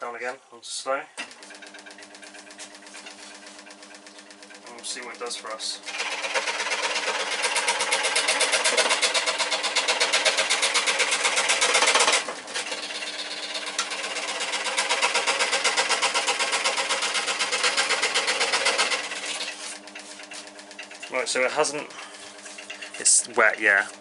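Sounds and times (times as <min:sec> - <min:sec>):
motor hum: 0:01.2 - 0:24.0.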